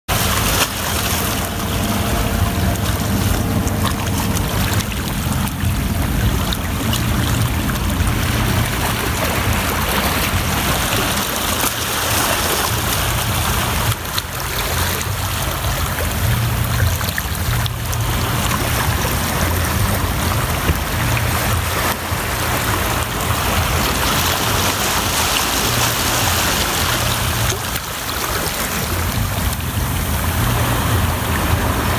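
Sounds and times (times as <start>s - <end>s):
waves washing over rocks: 0.1s - 31.9s.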